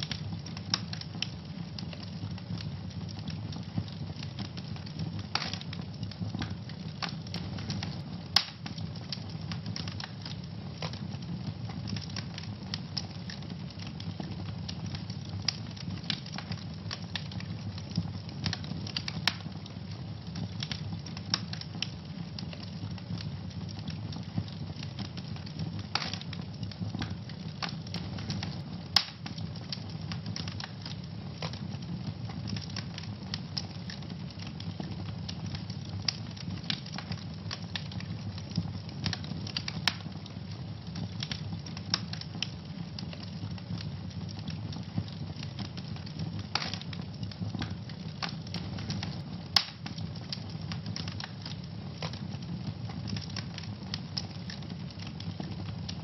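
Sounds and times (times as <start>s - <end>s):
fireplace fire crackling and popping: 0.0s - 56.0s.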